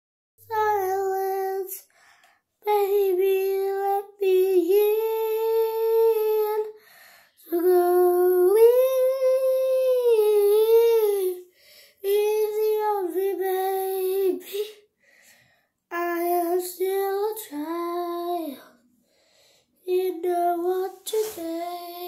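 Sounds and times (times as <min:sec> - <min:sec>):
girl singing: 0:00.4 - 0:14.9, 0:15.9 - 0:18.9, 0:19.8 - 0:22.0.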